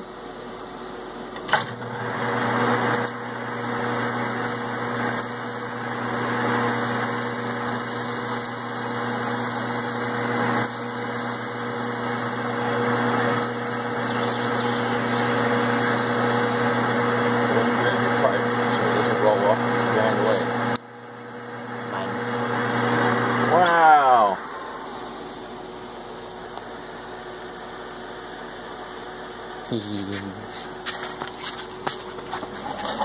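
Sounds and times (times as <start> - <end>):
lathe motor humming and whirring: 0.0 - 33.0.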